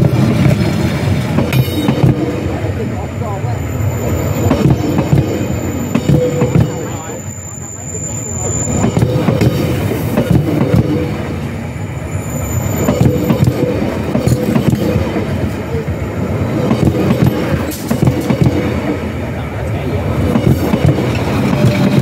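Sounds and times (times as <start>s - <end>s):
train wheels rumbling and clattering: 0.0s - 22.0s.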